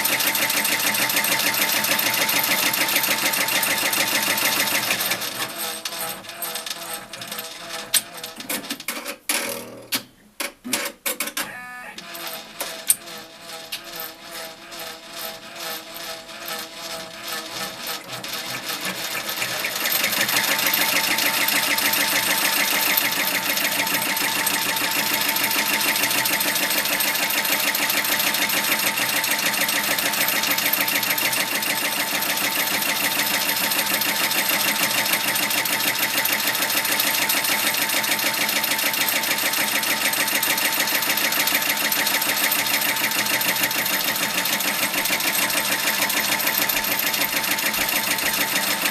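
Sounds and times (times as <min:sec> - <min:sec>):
embroidery machine stitching: 0:00.0 - 0:10.0, 0:10.7 - 0:48.9.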